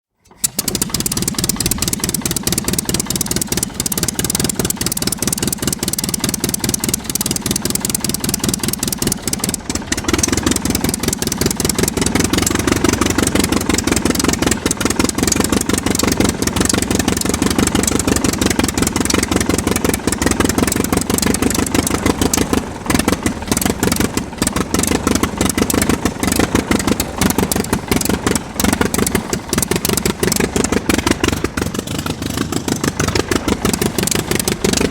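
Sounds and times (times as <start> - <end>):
aircraft piston engine running: 0.2 - 34.9.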